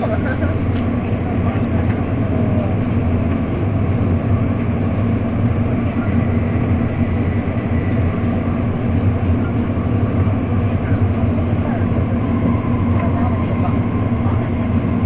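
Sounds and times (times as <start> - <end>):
train rumble and hiss on track: 0.0 - 15.0.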